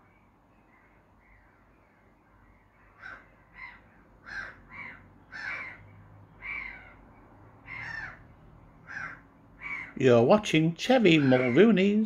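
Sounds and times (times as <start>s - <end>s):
birds calling sharply: 0.6s - 10.0s, 11.1s - 12.0s.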